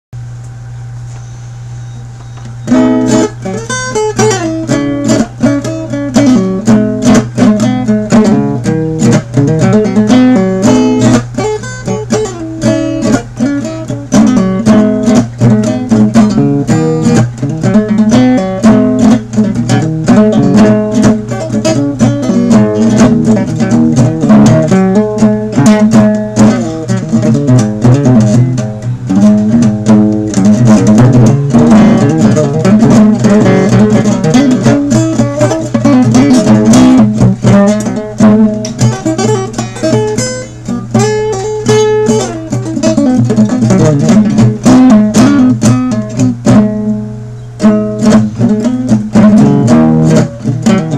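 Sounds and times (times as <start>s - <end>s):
low steady hum: 0.2s - 50.9s
acoustic guitar strumming: 1.1s - 50.9s.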